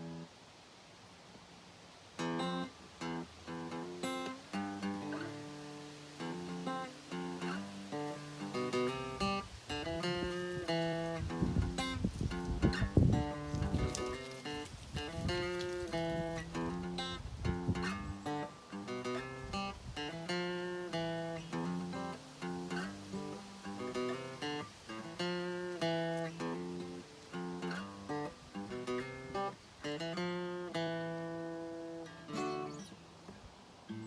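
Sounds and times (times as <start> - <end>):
acoustic guitar strummed: 2.2 - 34.0.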